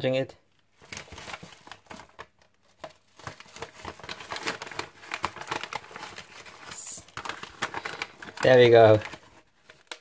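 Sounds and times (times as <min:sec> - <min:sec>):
packing paper crackling and rustling: 0:00.7 - 0:10.0.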